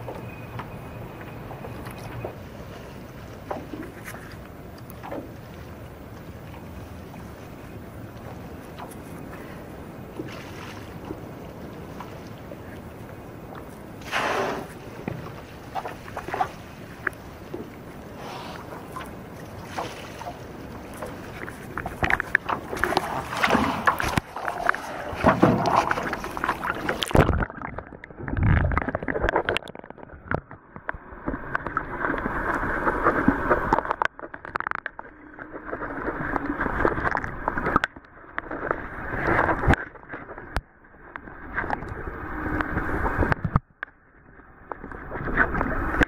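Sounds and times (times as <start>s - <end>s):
muffled underwater rushing: 0.0s - 40.5s
water splashing and sloshing: 0.0s - 46.0s.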